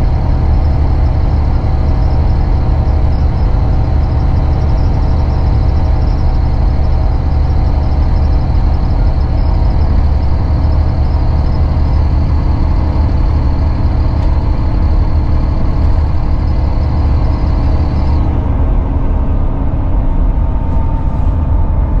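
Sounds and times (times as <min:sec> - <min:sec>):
diesel engine drone: 0:00.0 - 0:22.0
road and tyre noise: 0:00.0 - 0:22.0.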